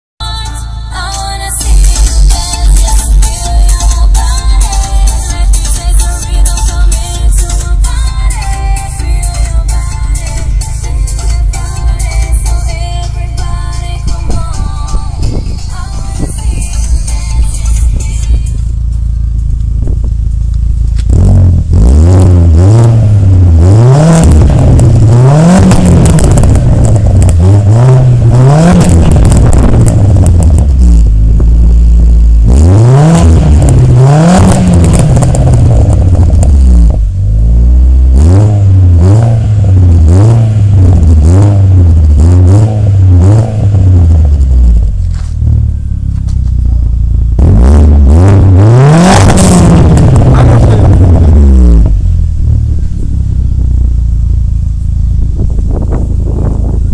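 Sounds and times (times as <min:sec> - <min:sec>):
car engine idling: 0:00.2 - 0:56.9
car engine revving: 0:01.6 - 0:56.9.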